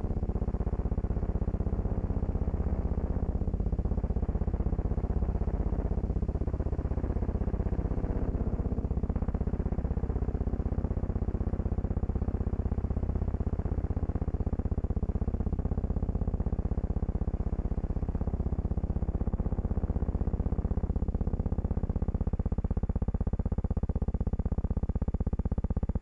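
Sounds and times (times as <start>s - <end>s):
pulsing low buzzing hum: 0.0s - 26.0s.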